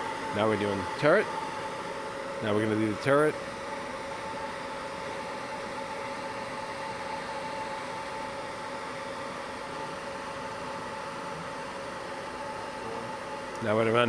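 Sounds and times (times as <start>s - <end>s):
lathe humming and hissing: 0.0s - 14.0s
steady machine tones: 0.0s - 14.0s.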